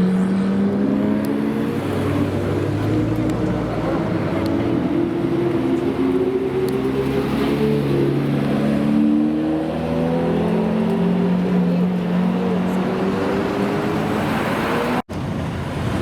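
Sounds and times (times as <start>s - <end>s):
supercar engines accelerating: 0.0s - 15.0s.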